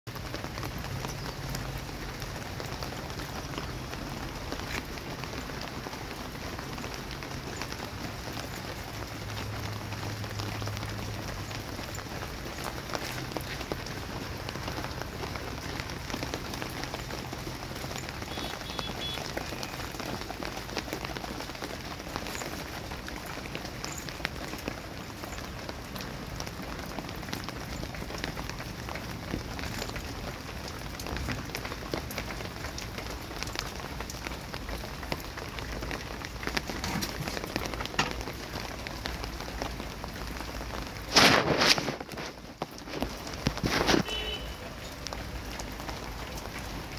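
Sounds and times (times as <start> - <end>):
rain on plants and concrete: 0.1 - 46.9.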